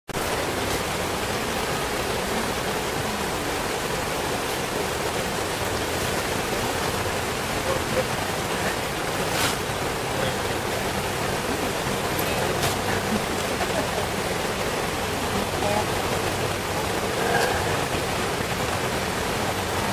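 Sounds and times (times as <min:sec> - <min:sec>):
flooded river rushing: 0:00.1 - 0:19.9.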